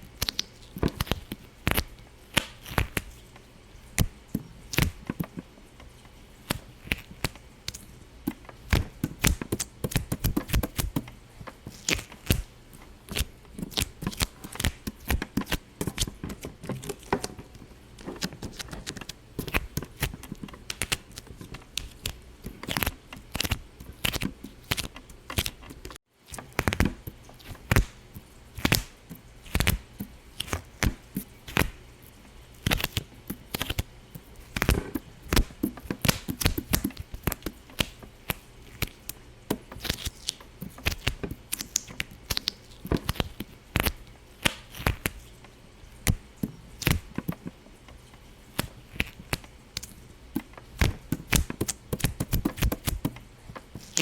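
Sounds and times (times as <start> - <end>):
sharp pops and clicks: 0.1 - 3.1, 6.5 - 31.8, 34.5 - 45.2, 46.0 - 48.0, 48.6 - 54.0.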